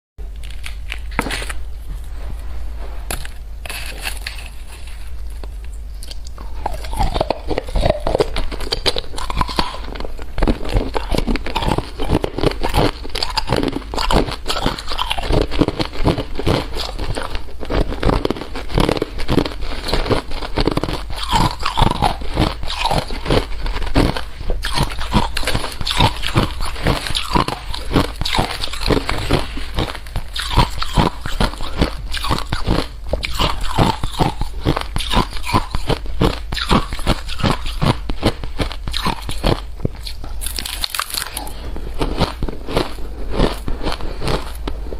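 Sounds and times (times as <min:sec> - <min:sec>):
pet crunching dry food: 0:03.1 - 0:44.9.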